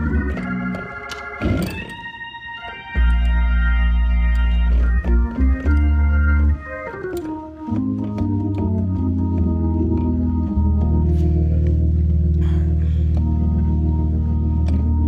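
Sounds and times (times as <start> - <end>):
deep organ bass notes: 0.0 - 15.0
organ chords: 0.0 - 15.0.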